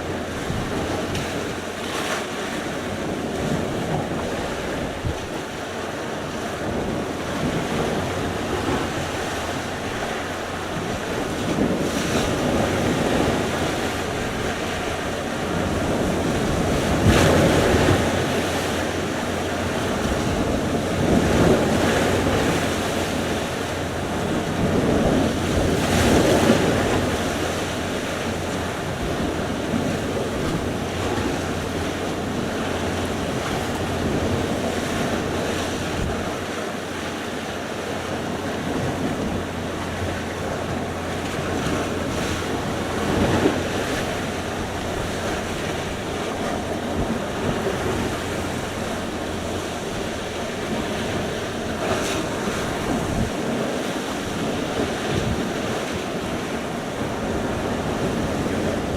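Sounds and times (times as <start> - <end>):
waves breaking: 0.0 - 58.9
wind on microphone: 0.0 - 58.9.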